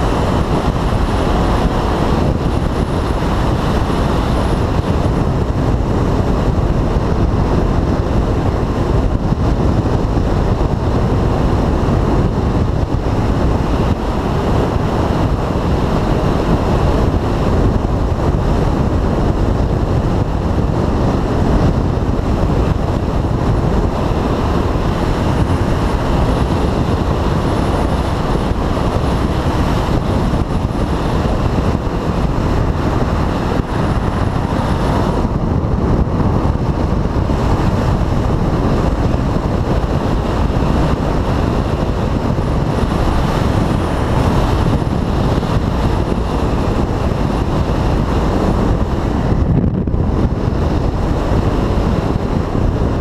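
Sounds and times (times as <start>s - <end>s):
motorcycle engine running: 0.0s - 53.0s
wind noise on microphone: 0.0s - 53.0s.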